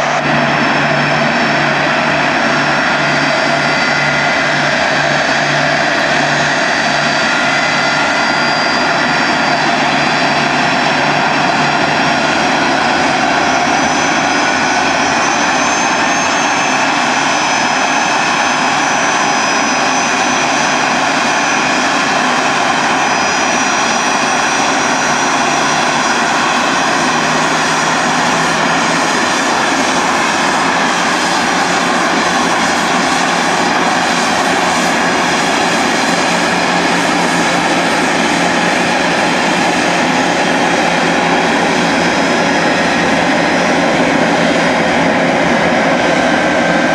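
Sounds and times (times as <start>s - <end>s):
jet engines whining: 0.0s - 46.9s.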